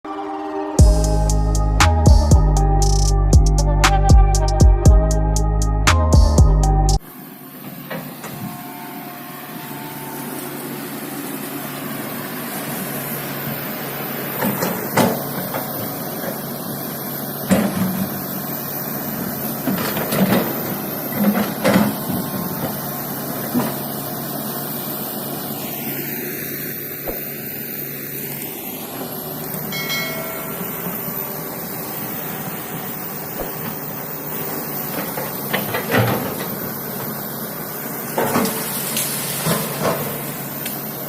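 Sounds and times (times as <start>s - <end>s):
excavator diesel engine running: 0.1s - 41.0s.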